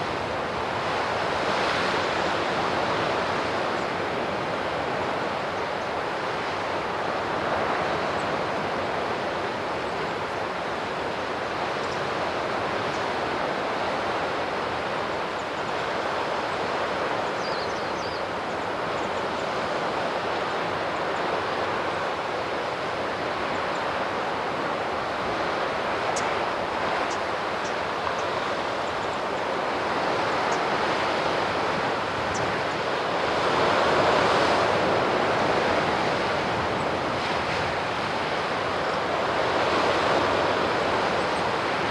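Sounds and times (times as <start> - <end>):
sea surf rushing on shore: 0.0 - 41.9
wind: 0.0 - 41.9.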